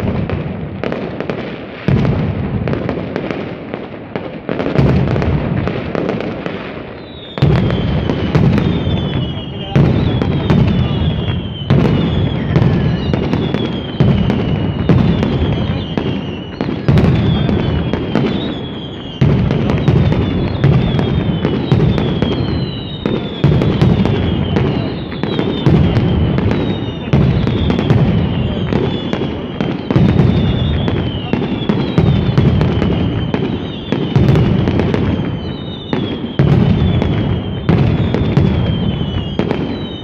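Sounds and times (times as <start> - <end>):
falling firework whistles: 0.0 - 40.0
firecracker bangs barrage: 0.0 - 40.0.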